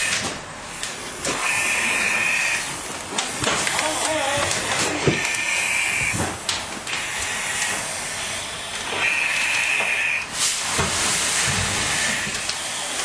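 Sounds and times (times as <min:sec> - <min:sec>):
hose water and steam hissing: 0:00.0 - 0:02.9, 0:03.8 - 0:13.0.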